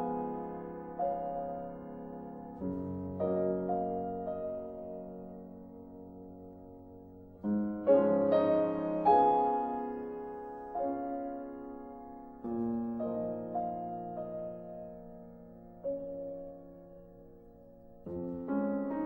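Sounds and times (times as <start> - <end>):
slow soft piano music: 0.0 - 19.0.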